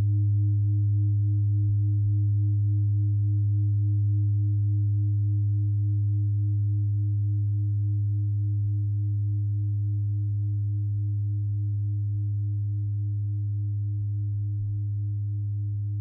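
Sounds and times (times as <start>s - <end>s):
deep hum: 0.0s - 16.0s.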